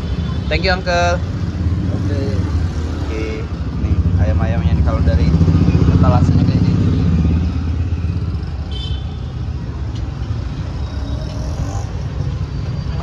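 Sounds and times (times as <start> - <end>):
vehicle engines passing: 0.0 - 13.0.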